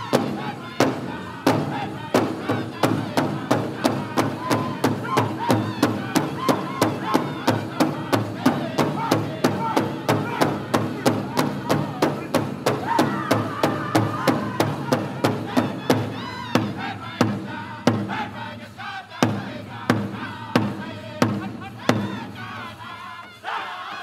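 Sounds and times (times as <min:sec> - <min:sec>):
big drum beating fast: 0:00.0 - 0:22.9
high-pitched male singing: 0:00.0 - 0:24.0.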